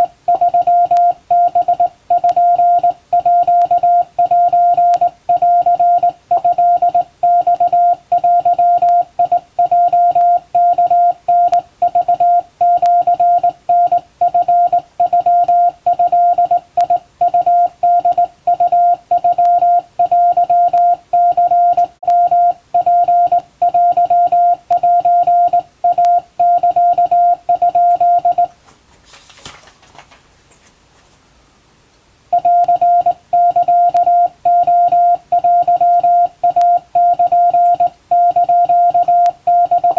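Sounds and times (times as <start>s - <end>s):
morse code beeps: 0.0s - 28.5s, 32.3s - 39.9s.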